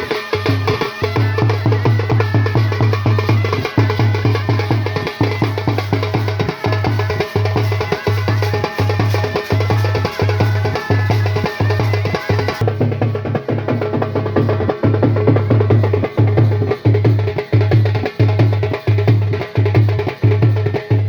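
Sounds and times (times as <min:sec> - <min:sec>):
drum-driven band music: 0:00.0 - 0:21.0.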